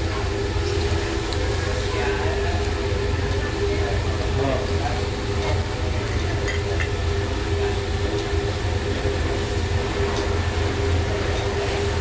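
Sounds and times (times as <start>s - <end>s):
exhaust fan rumble and hum: 0.0s - 12.0s
light sizzle from griddle: 0.0s - 12.0s.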